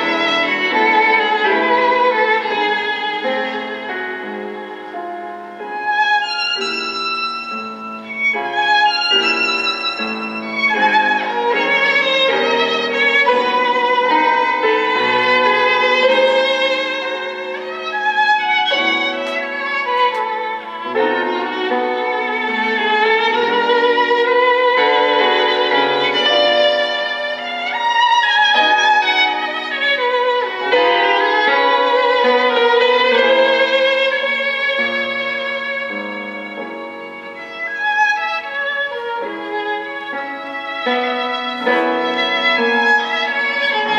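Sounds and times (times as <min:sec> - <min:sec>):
violin melody with vibrato: 0:00.0 - 0:43.9.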